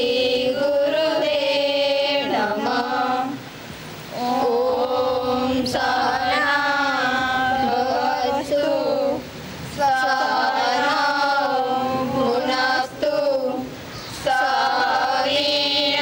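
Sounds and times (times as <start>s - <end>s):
girls singing in unison: 0.0s - 16.0s.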